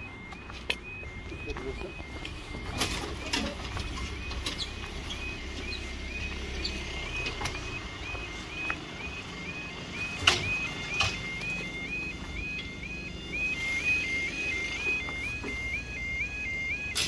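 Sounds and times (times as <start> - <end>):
level crossing alarm warbling: 0.0 - 17.0.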